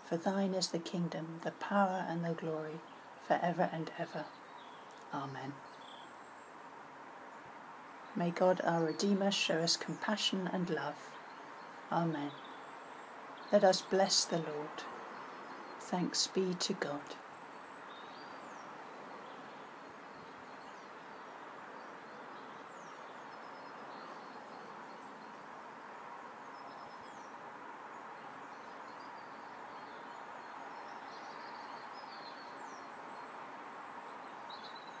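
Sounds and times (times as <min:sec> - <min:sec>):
outdoor background hiss: 0:00.0 - 0:35.0
small birds chirping and trilling: 0:03.8 - 0:35.0.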